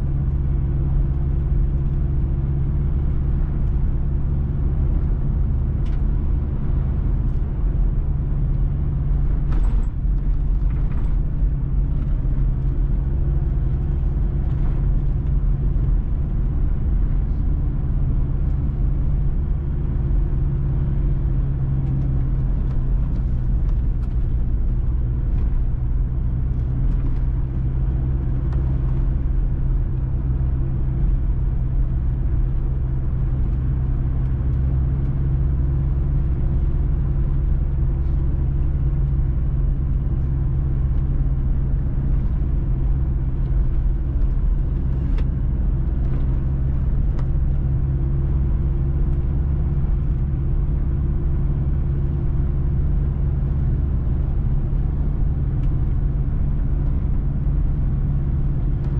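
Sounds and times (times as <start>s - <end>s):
car engine running: 0.0s - 58.9s
road and tyre rumble: 0.0s - 58.9s.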